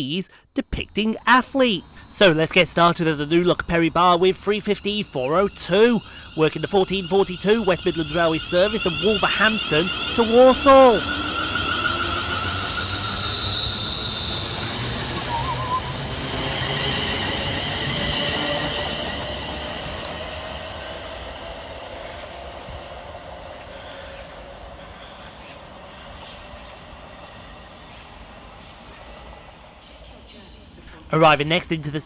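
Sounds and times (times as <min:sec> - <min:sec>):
electric train whine: 0:01.4 - 0:30.8
wheel-on-rail noise: 0:04.1 - 0:30.6.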